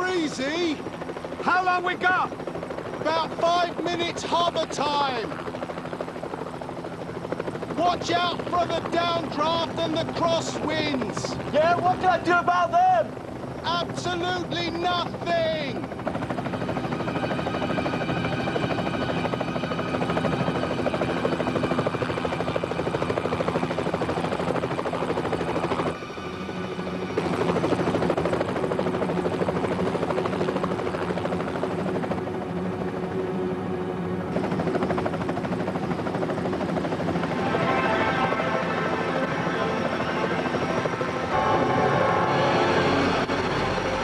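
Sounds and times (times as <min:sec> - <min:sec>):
helicopter engine whine: 0:00.0 - 0:44.0
helicopter rotor beating: 0:00.0 - 0:44.0.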